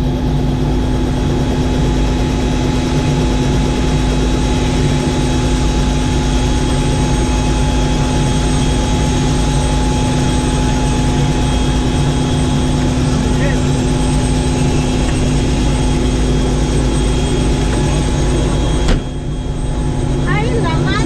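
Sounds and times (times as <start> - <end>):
helicopter engine and rotors: 0.0 - 21.0.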